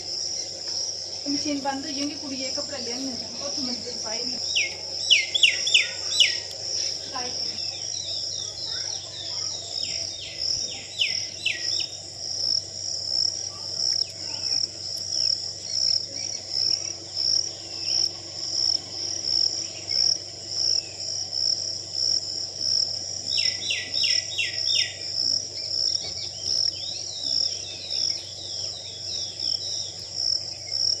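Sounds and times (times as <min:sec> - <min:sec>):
birds calling: 0:00.0 - 0:31.0
insects chirping: 0:00.0 - 0:31.0.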